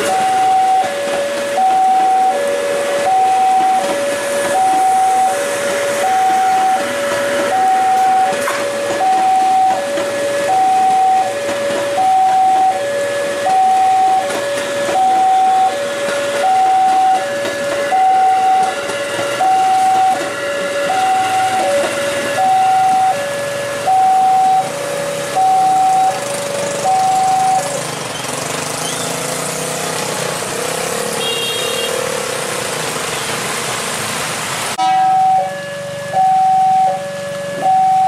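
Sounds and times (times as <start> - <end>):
level crossing two-tone alarm: 0.0 - 27.8, 34.8 - 38.0
electric train passing: 0.0 - 38.0.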